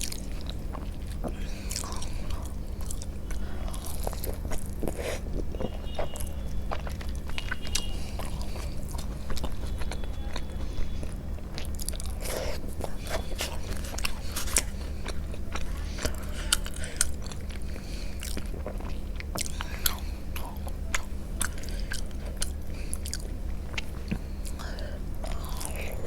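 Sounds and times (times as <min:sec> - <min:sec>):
biting and chewing soft food: 0:00.0 - 0:26.0.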